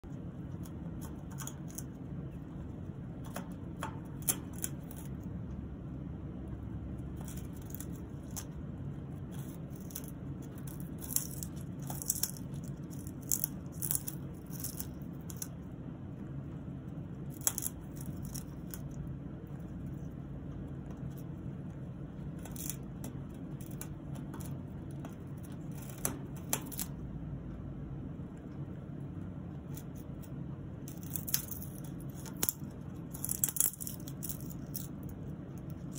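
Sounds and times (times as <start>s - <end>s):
parrot gnawing wood: 0.0s - 27.1s, 28.6s - 35.9s
low steady hum: 0.0s - 35.9s.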